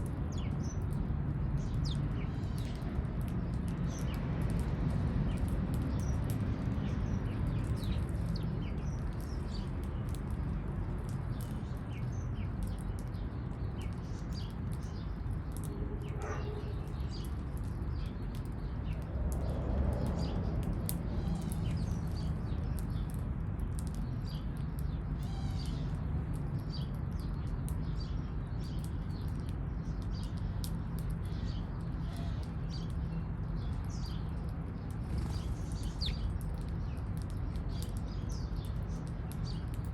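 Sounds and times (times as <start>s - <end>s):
low city rumble: 0.0s - 39.9s
small birds chirping: 0.0s - 39.9s.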